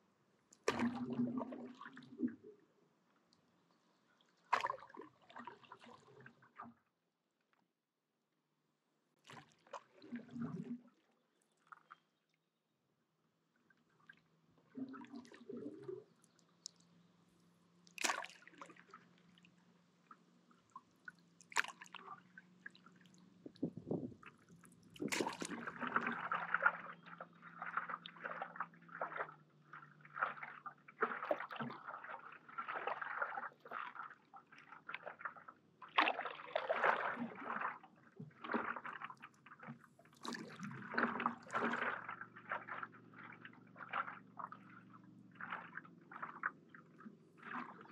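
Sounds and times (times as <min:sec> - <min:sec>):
paddle splashing in water: 0:00.6 - 0:02.4, 0:04.3 - 0:06.7, 0:09.2 - 0:11.0, 0:13.8 - 0:17.0, 0:17.8 - 0:47.9.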